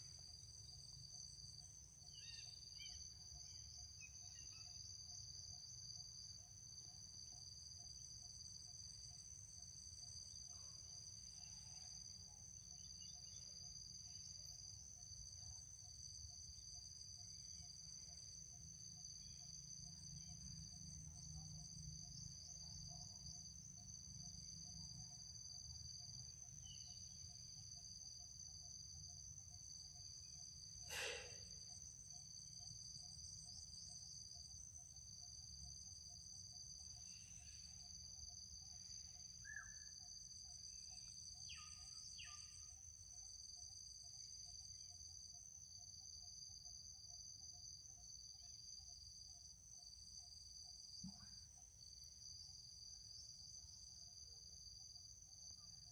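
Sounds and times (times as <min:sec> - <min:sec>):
crickets and insects droning: 0:00.0 - 0:55.9.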